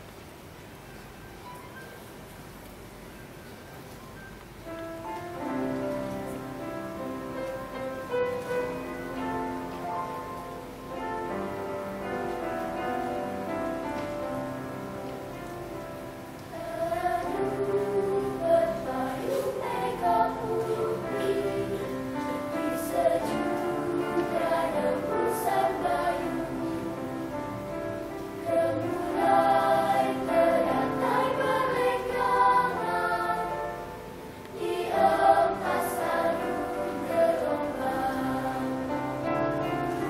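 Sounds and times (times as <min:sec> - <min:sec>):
children's choir singing: 0:05.0 - 0:40.0.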